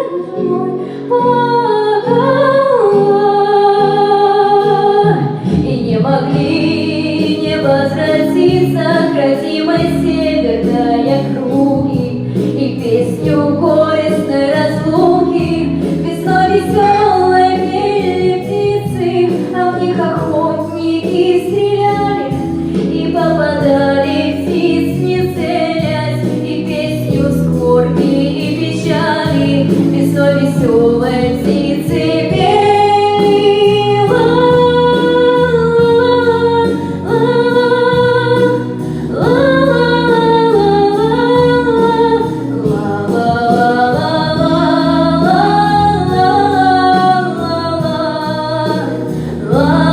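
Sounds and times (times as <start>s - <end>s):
sustained backing music: 0.0s - 49.9s
women singing a slow song: 0.0s - 49.9s.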